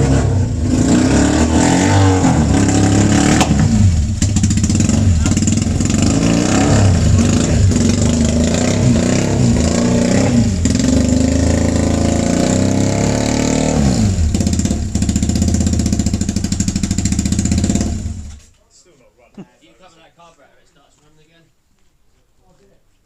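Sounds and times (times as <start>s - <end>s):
motorcycle engine revving and idling: 0.0s - 18.5s.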